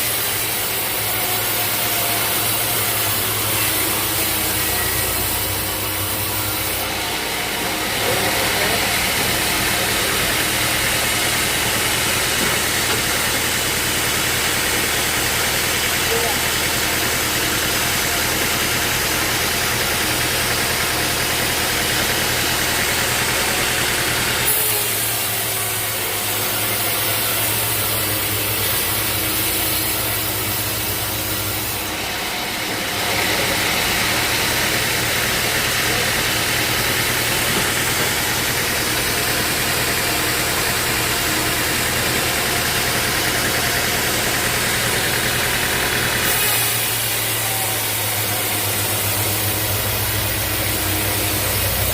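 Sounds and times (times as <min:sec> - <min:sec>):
sawmill engine running: 0:00.0 - 0:51.9.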